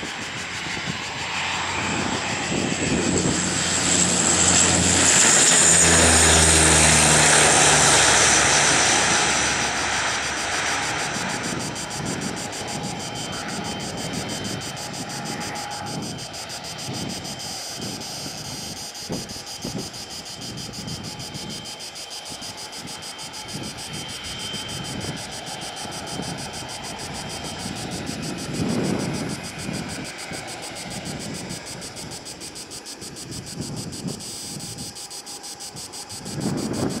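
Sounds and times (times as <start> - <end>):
wind buffeting microphone: 0.0 - 35.0, 35.6 - 37.0
turboprop airliner: 0.0 - 37.0.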